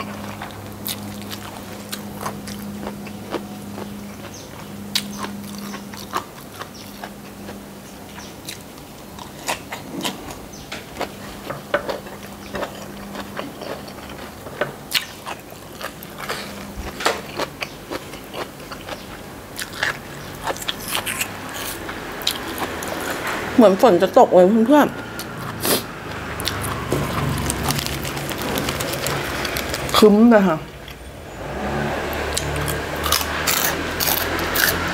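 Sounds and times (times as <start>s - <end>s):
person chewing food: 0.0s - 23.4s, 25.0s - 30.0s, 32.1s - 34.9s
steady low hum: 0.0s - 34.9s.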